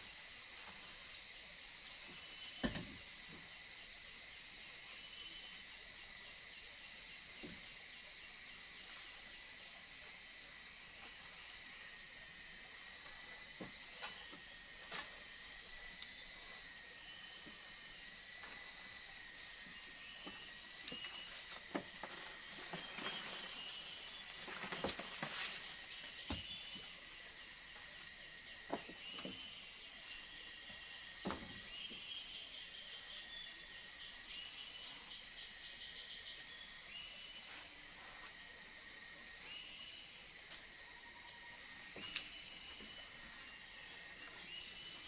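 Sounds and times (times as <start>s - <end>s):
insects and crickets singing: 0.0s - 45.0s.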